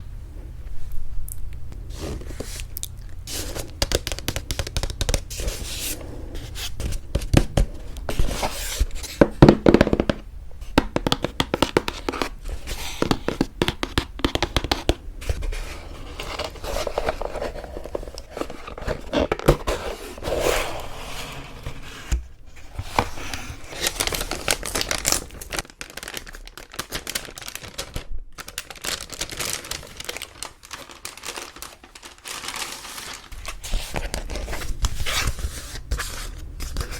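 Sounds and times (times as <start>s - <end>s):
paper rustling and crinkling: 1.9s - 36.9s.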